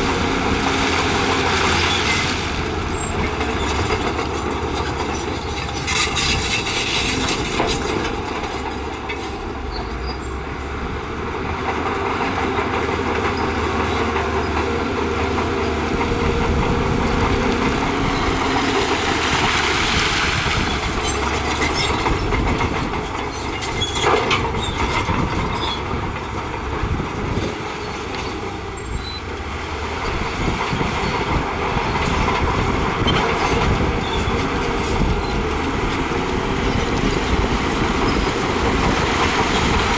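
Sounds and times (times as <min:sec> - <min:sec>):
diesel engine under load: 0:00.0 - 0:39.9
metallic clatter and rumbling: 0:00.0 - 0:39.9.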